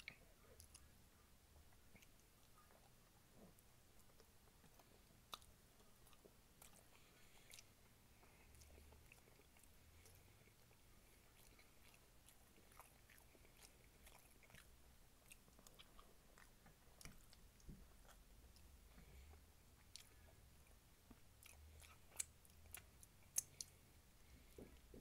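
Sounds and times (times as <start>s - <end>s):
chewing meat: 1.6s - 25.0s.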